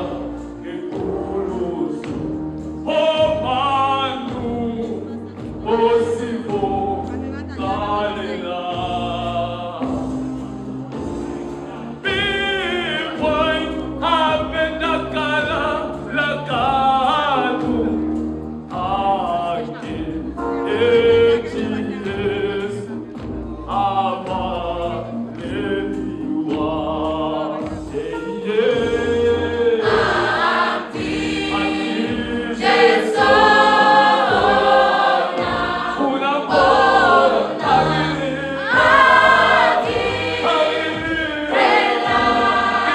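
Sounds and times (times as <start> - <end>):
choir singing gospel music: 0.0 - 42.9.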